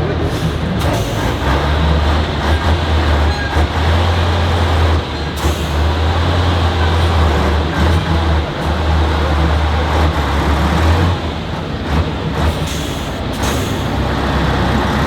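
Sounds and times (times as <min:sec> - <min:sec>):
heavy truck engine under load: 0:00.0 - 0:15.0.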